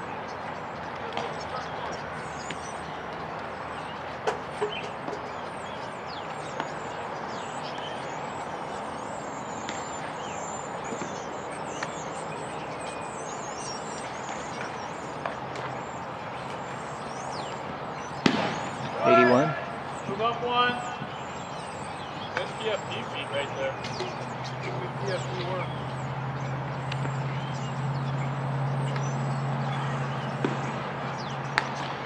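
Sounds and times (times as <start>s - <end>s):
small birds chirping: 0.0s - 32.0s
steady outdoor hiss: 0.0s - 32.0s.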